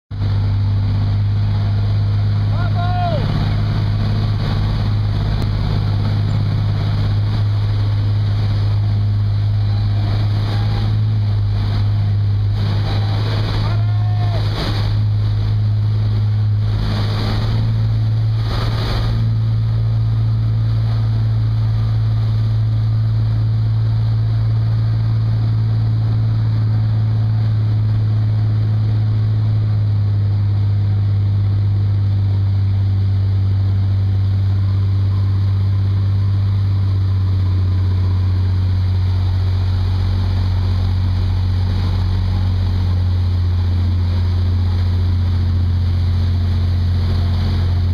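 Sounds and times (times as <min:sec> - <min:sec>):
boat engine humming: 0:00.1 - 0:47.9
wake water rushing: 0:00.1 - 0:47.9
wind on microphone: 0:03.2 - 0:47.9.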